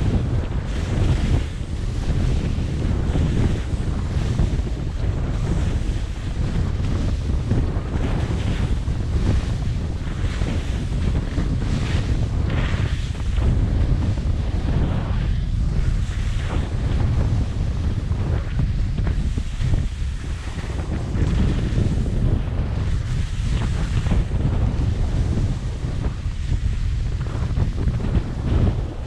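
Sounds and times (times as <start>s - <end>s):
skis scraping on snow: 0.0s - 29.0s
wind buffeting microphone: 0.0s - 29.0s.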